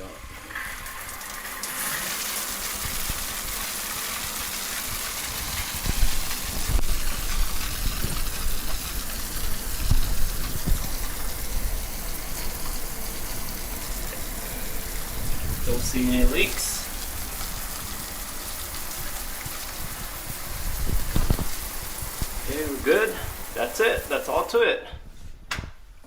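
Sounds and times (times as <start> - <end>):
water splashing below: 0.0 - 24.7
shower water pouring: 0.0 - 24.8.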